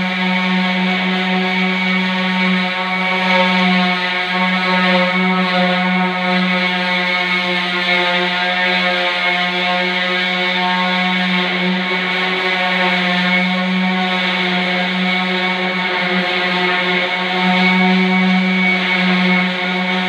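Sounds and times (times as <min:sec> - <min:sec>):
orbital sander humming whine: 0:00.0 - 0:20.0.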